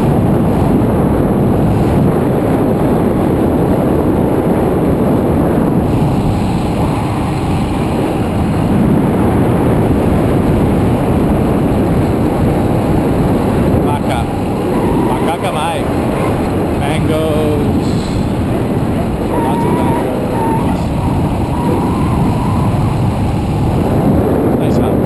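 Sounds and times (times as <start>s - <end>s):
motorbike engine: 0.0s - 24.6s
road noise: 0.0s - 25.0s
wind rushing over microphone: 0.0s - 25.0s.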